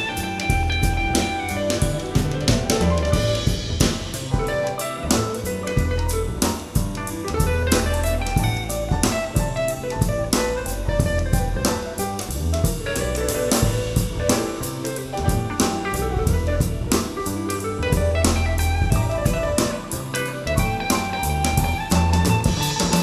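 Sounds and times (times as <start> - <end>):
instrumental jazz music: 0.0 - 23.0.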